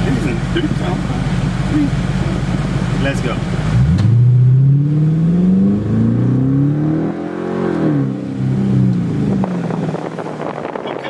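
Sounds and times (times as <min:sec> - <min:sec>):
car engine accelerating: 0:00.0 - 0:11.0
road noise: 0:00.0 - 0:11.0.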